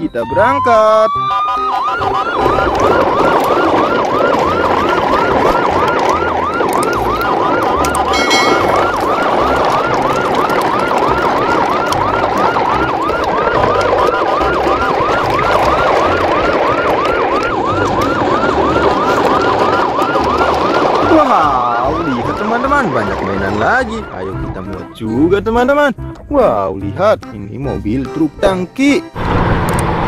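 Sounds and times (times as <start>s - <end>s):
electronic siren whooping: 0.0s - 25.1s.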